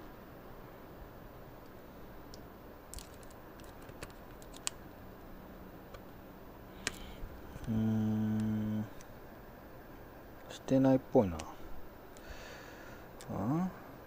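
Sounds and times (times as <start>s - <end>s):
low background hiss: 0.0s - 14.0s.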